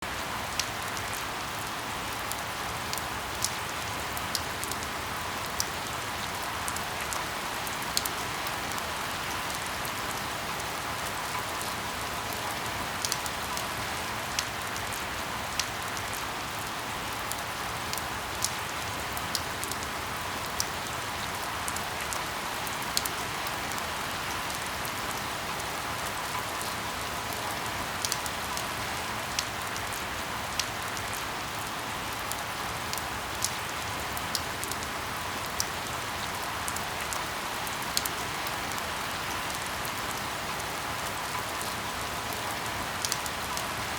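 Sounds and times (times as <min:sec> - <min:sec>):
light rain hiss: 0:00.0 - 0:43.9
raindrops ticking on a surface: 0:00.1 - 0:43.9.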